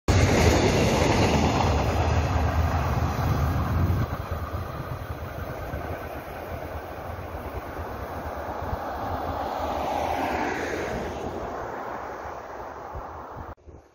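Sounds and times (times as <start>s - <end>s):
train wheels rumbling on rails: 0.1s - 13.5s.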